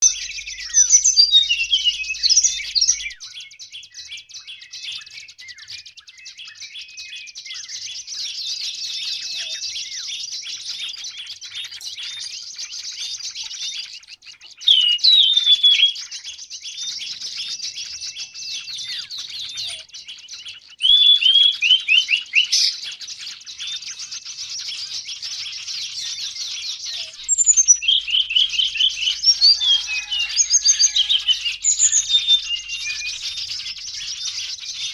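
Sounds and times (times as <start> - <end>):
small birds twittering: 0.0 - 34.9.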